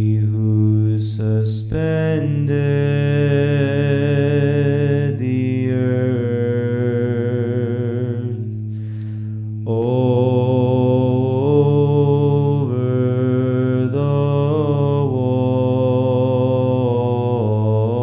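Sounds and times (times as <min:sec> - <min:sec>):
man chanting slow melody: 0:00.0 - 0:08.7, 0:09.5 - 0:18.0
held vocal drone: 0:00.0 - 0:18.0.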